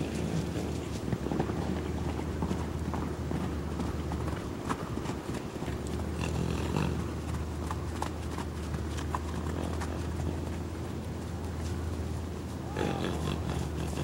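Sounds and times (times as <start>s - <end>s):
hoofbeats on sand: 0.0s - 14.0s.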